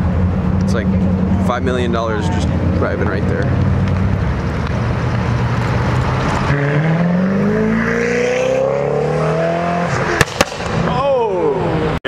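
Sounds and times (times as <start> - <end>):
car engine accelerating: 0.0 - 10.7.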